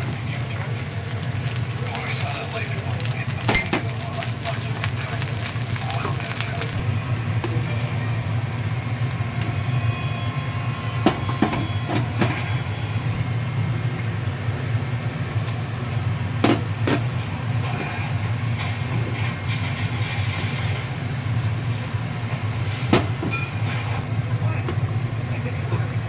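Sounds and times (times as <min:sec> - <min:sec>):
kitchen machinery hum: 0:00.0 - 0:26.0.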